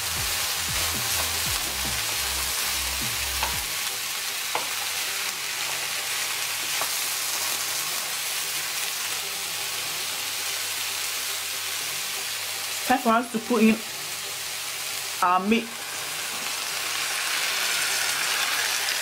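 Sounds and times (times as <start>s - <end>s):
vegetables sizzling in frying pan: 0.0s - 19.0s.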